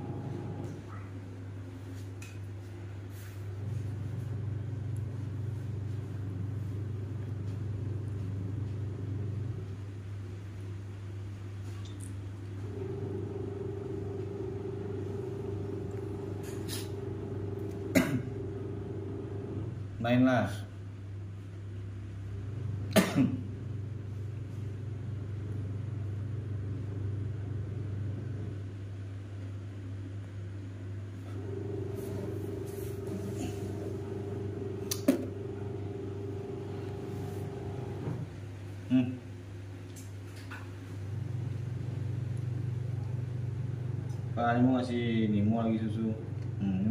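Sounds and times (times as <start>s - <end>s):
low mechanical hum: 0.0s - 46.9s.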